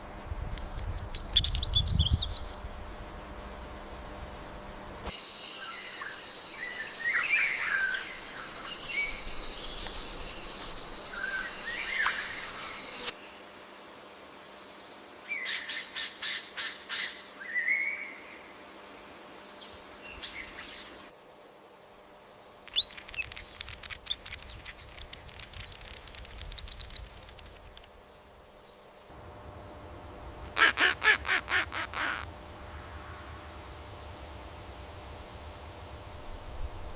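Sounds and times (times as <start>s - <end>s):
steady high hum: 0.0s - 15.3s, 17.1s - 36.9s.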